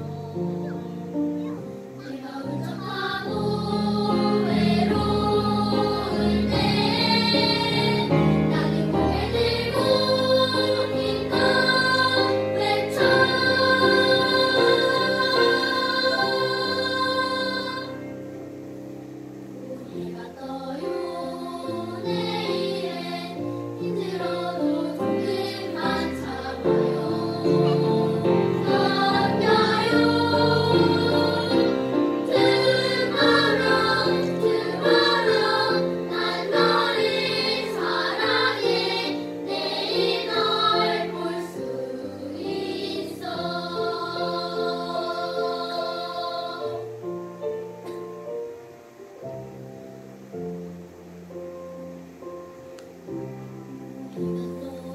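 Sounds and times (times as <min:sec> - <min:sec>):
children's choir singing: 0:00.0 - 0:18.9, 0:19.5 - 0:47.2, 0:54.1 - 0:54.9
piano accompaniment: 0:00.0 - 0:54.9.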